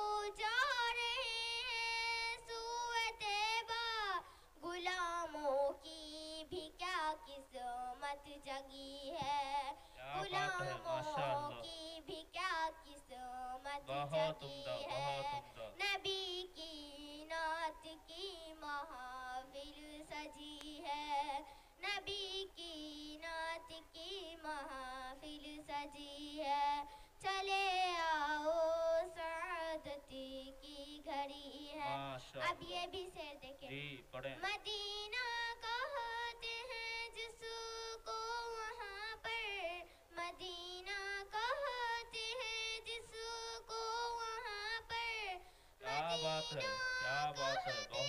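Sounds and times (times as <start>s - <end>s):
girl singing into a microphone: 0.0s - 33.7s, 34.4s - 48.0s.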